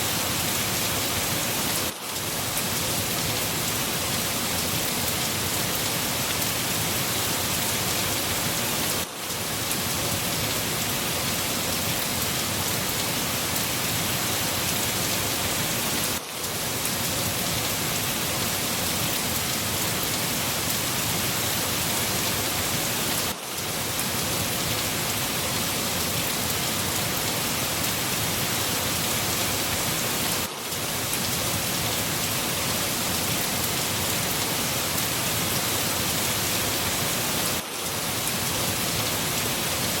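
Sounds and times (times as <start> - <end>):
rain falling: 0.0 - 40.0.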